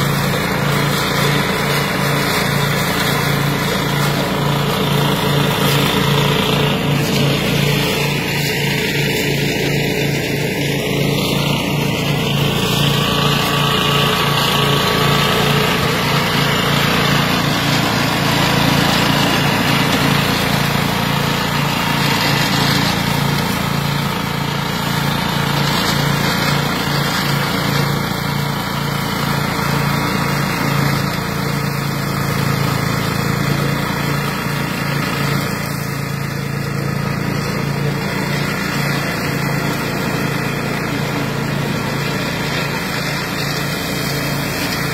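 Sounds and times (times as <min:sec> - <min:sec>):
flail mower engine running: 0:00.0 - 0:44.9.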